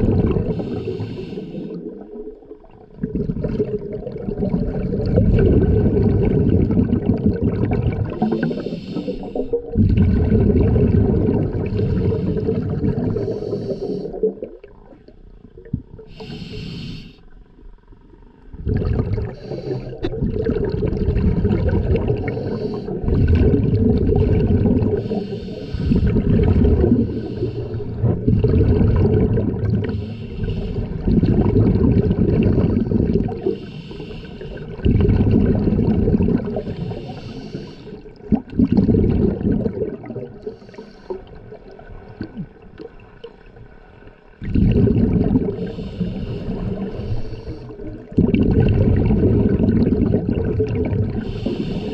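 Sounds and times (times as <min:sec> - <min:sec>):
scuba regulator bubbling exhalations: 0:00.0 - 0:17.3, 0:18.4 - 0:43.0, 0:44.4 - 0:51.9.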